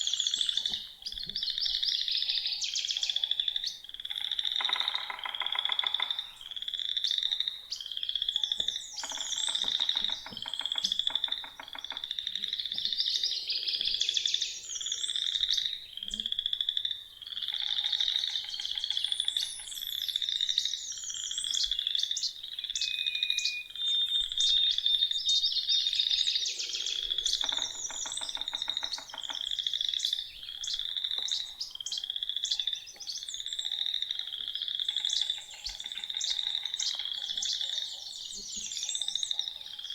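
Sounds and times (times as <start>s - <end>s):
frogs trilling: 0.0s - 39.9s
songbirds singing: 0.0s - 39.9s
low pulsed frog croaks: 3.0s - 22.8s, 26.6s - 39.9s.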